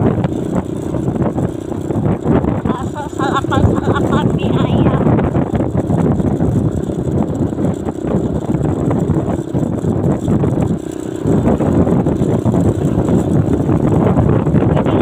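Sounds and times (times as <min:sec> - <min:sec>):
vehicle road rumble: 0:00.0 - 0:15.0.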